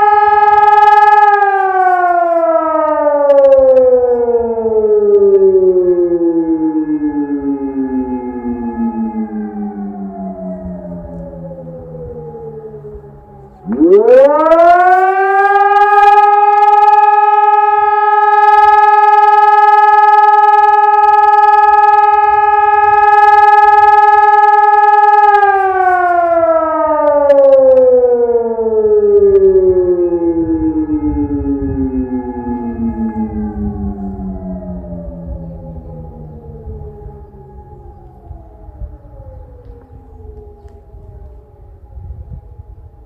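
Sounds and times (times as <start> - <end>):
siren steady tone: 0.0 - 43.0.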